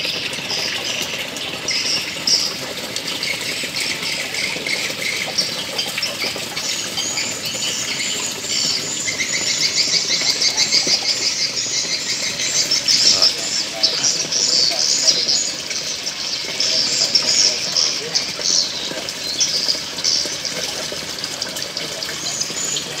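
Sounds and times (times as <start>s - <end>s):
small birds chirping: 0.4s - 23.0s.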